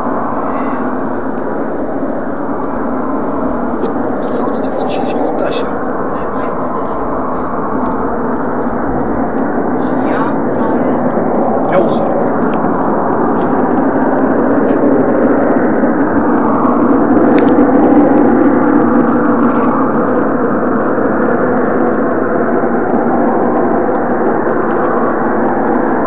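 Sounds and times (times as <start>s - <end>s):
loud steady drone: 0.0s - 26.0s.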